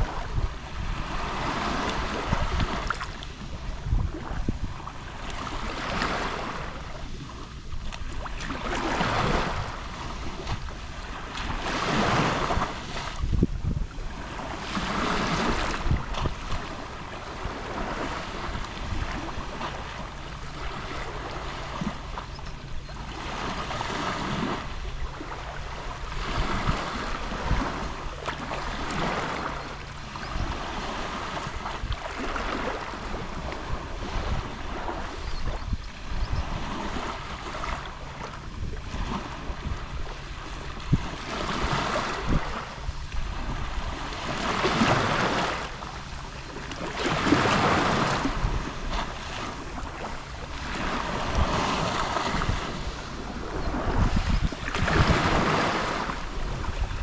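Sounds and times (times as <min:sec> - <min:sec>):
small waves lapping on shore: 0:00.0 - 0:57.0.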